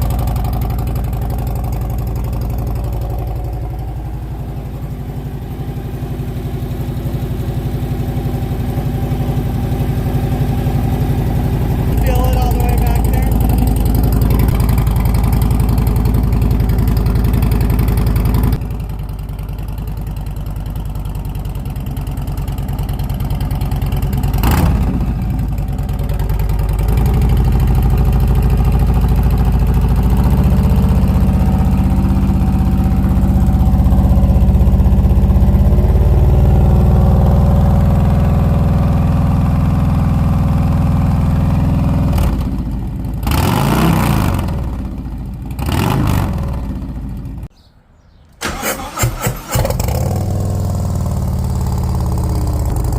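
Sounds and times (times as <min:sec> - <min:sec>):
motorcycle engine revving: 0:00.0 - 0:47.5, 0:48.4 - 0:52.9.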